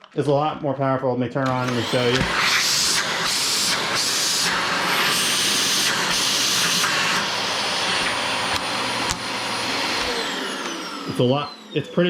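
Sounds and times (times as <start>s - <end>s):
vacuum cleaner running: 1.4s - 12.0s.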